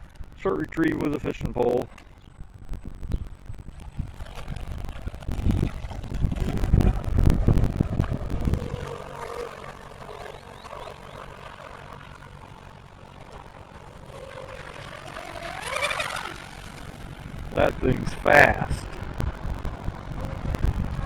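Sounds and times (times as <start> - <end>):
electric motor high whine: 0.0 - 21.0
wind rumble on microphone: 0.0 - 21.0.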